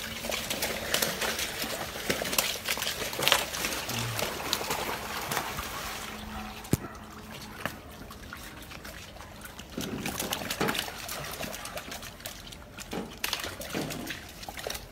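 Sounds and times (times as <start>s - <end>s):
wet scraping and splashing: 0.0s - 14.9s.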